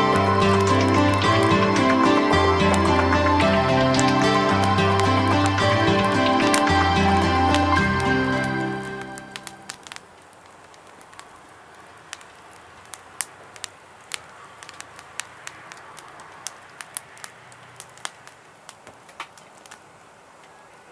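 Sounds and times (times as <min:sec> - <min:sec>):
wood fire crackling and popping: 0:00.0 - 0:20.5.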